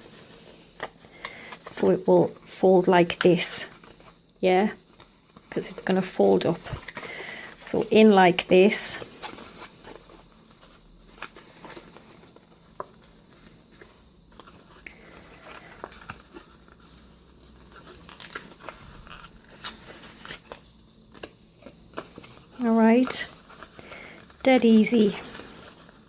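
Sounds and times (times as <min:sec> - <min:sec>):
paper rustling: 0:04.9 - 0:26.0.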